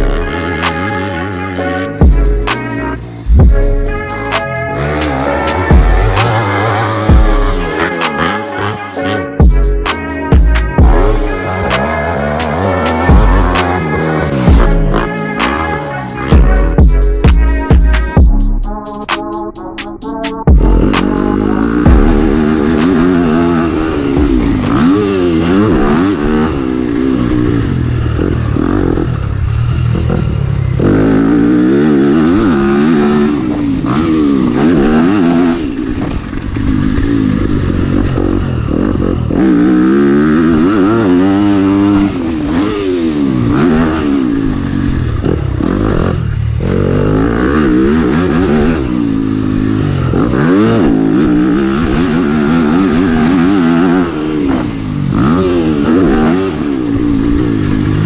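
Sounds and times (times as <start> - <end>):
motocross bike engine revving: 0.0 - 18.2, 20.5 - 58.0.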